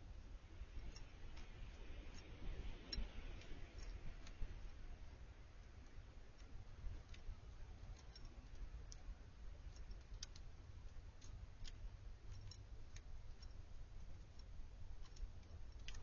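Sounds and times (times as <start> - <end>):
birds pecking seed: 0.0 - 16.0.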